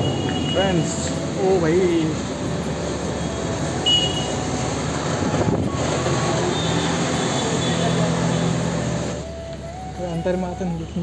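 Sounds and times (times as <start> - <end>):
rushing indoor store noise: 0.0 - 10.8.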